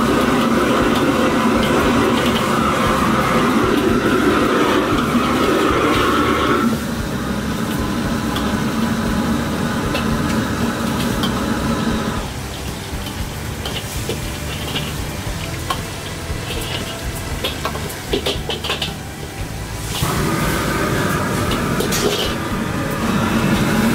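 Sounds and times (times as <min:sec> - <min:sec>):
gas burner roaring: 0:00.0 - 0:23.9
metal ladle scraping wok: 0:00.0 - 0:23.9
noodles sizzling: 0:00.0 - 0:23.9.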